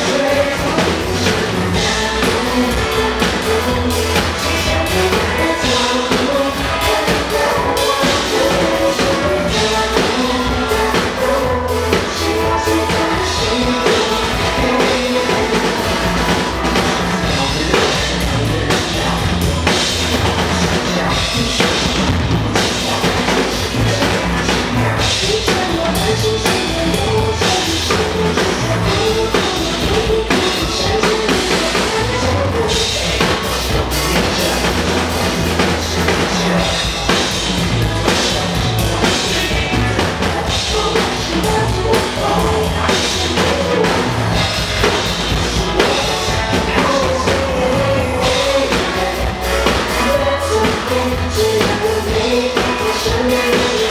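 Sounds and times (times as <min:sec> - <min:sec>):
drum kit playing: 0:00.0 - 0:53.9
rock backing track: 0:00.0 - 0:53.9.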